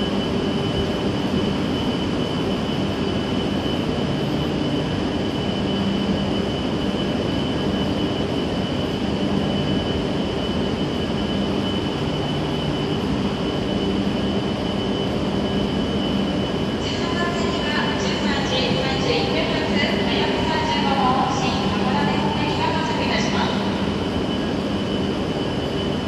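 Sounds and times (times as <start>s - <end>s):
standing train mechanical drone: 0.0s - 26.0s
thin high whine: 0.0s - 26.0s.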